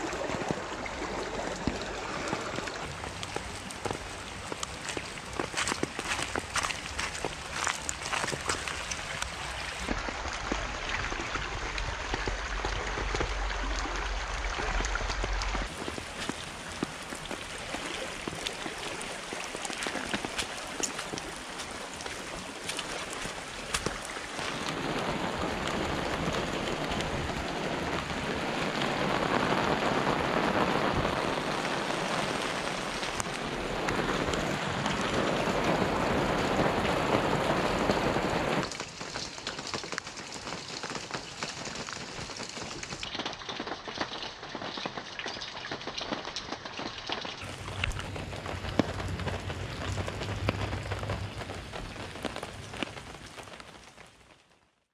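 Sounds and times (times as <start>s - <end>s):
rain: 0.0s - 54.9s.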